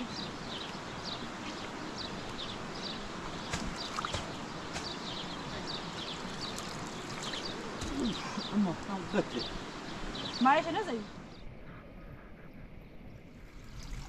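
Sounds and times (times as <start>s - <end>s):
outdoor background noise: 0.0s - 14.0s
small birds chirping: 0.0s - 14.0s.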